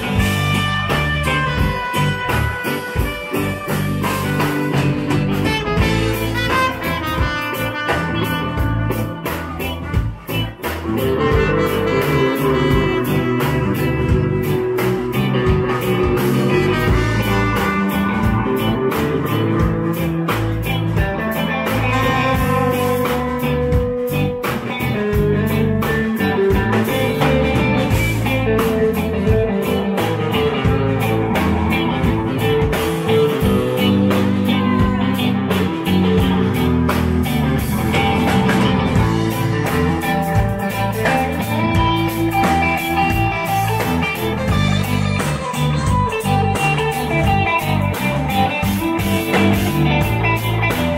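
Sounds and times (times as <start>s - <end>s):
trumpet playing: 0.0s - 47.6s
bass guitar: 0.0s - 50.9s
drums: 0.0s - 50.9s
electric guitar: 0.0s - 50.9s.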